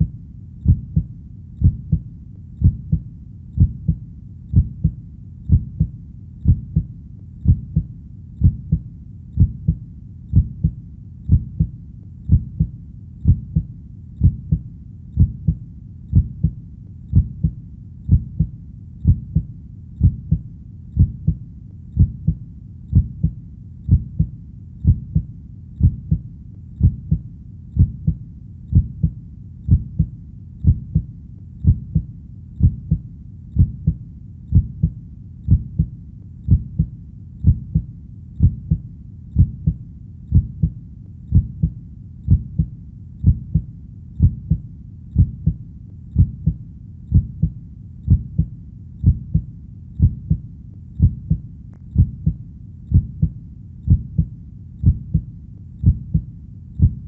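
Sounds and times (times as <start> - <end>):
faint low rumble: 0.0 - 57.0
heartbeat thumps: 0.0 - 57.0.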